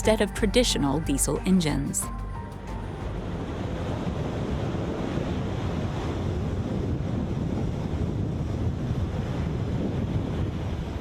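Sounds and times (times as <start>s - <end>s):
wind and sea rushing: 0.0s - 11.0s
wind buffeting microphone: 0.0s - 11.0s.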